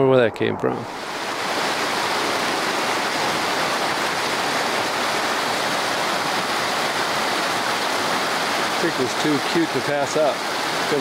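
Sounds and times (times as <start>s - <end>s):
creek rushing over rocks: 0.9s - 11.0s.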